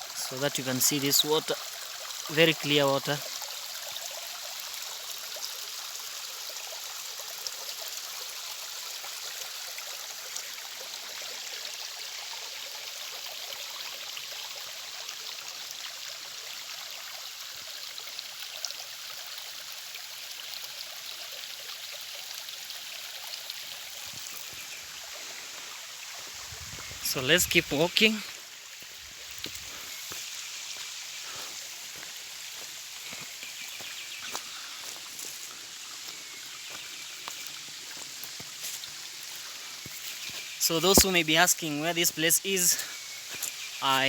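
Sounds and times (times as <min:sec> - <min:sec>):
stream water flowing over rocks: 0:00.0 - 0:44.0.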